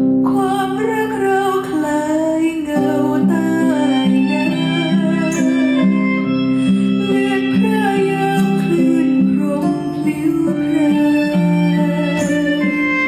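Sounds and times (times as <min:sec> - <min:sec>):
guitar music over loudspeakers: 0:00.0 - 0:13.0.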